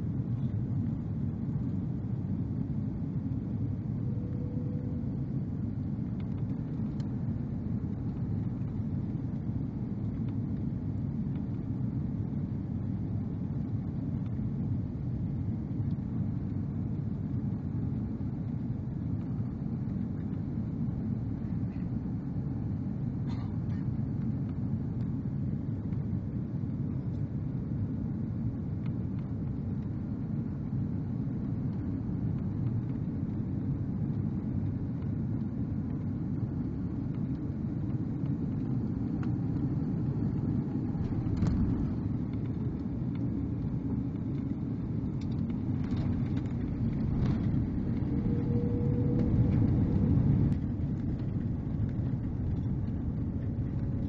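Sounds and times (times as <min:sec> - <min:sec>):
low rumble of engines and airflow: 0:00.0 - 0:54.0.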